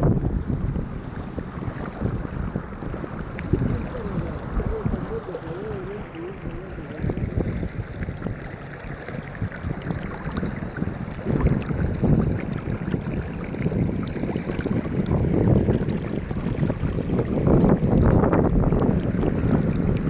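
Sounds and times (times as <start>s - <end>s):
wind buffeting microphone: 0.0s - 20.0s
river water rushing over rocks: 0.1s - 20.0s.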